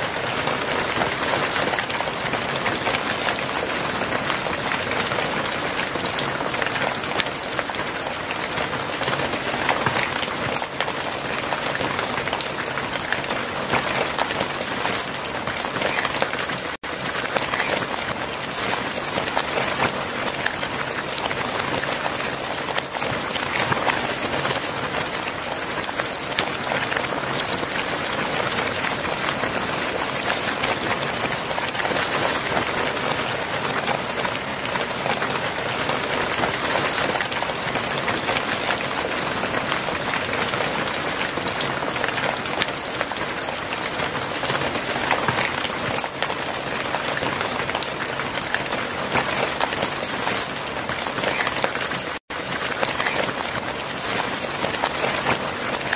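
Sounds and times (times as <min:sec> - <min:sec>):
hail and rain on tiles: 0:00.0 - 0:55.9.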